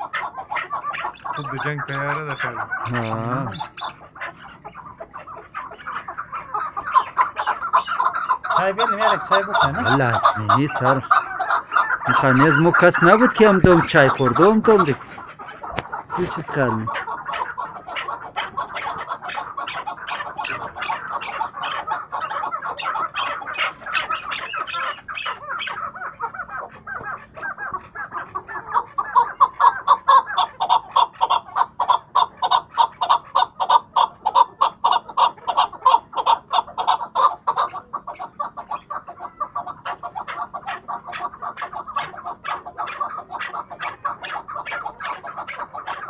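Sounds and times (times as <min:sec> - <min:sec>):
partridges clucking: 0:00.0 - 0:46.0.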